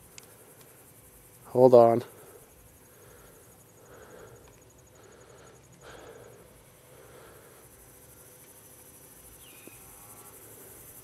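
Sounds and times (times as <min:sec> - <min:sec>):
crickets trilling: 0:00.0 - 0:11.0
outdoor noise: 0:00.0 - 0:11.0.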